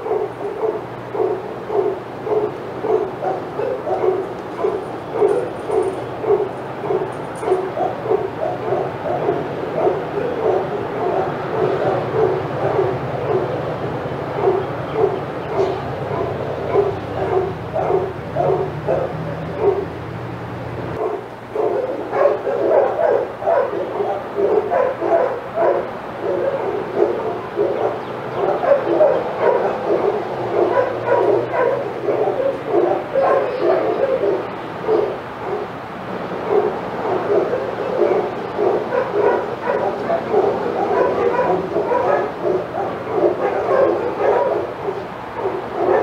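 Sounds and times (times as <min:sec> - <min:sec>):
dogs barking and yipping: 0:00.0 - 0:46.0.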